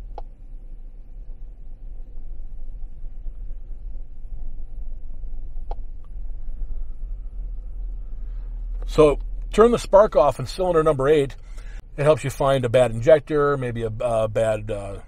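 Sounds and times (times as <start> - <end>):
truck engine idling rough: 0.0 - 15.0.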